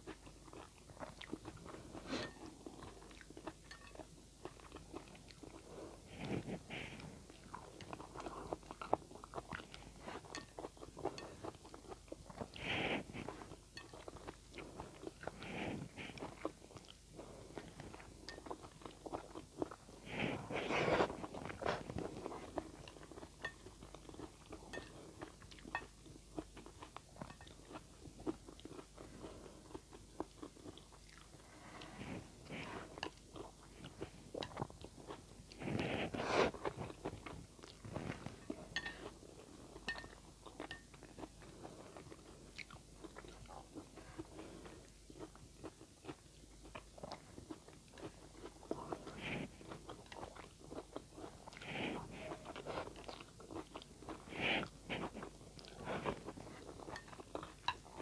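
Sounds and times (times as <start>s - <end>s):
wet chewing and smacking: 0.0s - 58.0s.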